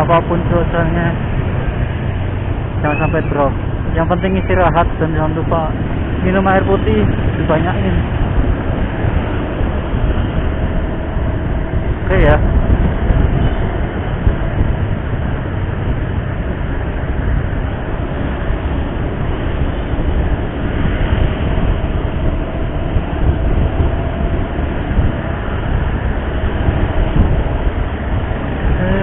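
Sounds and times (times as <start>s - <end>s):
motorcycle road noise rumble: 0.0s - 29.0s.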